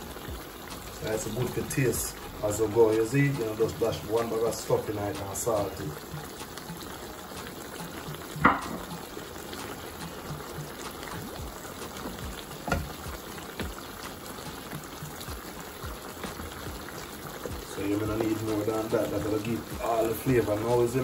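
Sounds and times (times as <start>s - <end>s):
sauce bubbling in a pan: 0.0s - 21.0s.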